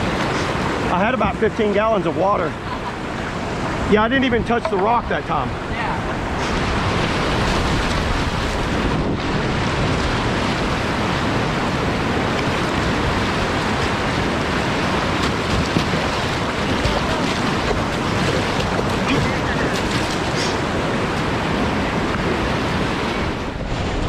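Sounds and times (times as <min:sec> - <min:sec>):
whitewater rushing and churning: 0:00.0 - 0:24.0.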